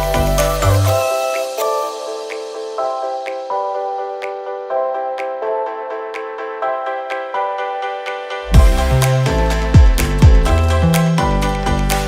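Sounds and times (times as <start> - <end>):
soft electronic melody: 0.0 - 12.0.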